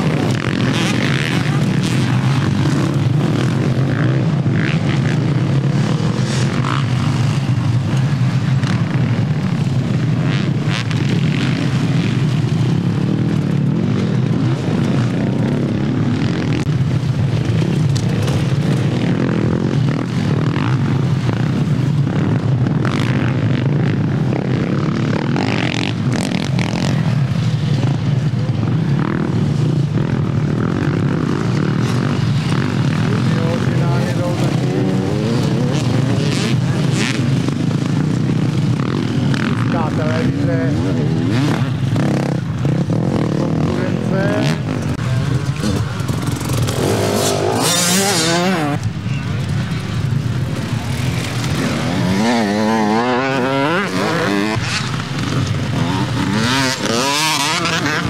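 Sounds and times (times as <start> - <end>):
quad bike and motorcycle engines: 0.0 - 58.0.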